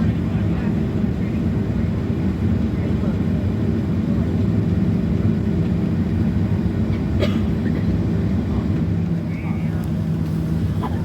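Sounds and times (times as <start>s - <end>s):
jet engine low rumble: 0.0s - 11.0s.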